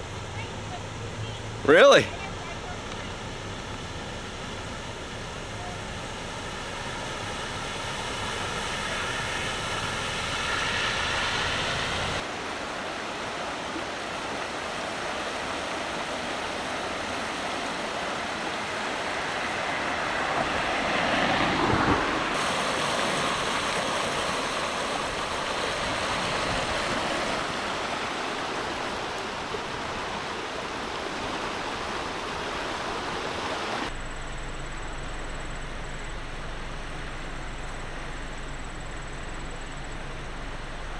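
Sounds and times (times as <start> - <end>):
car splashing through floodwater: 0.0 - 40.9
creek rushing: 0.0 - 40.9.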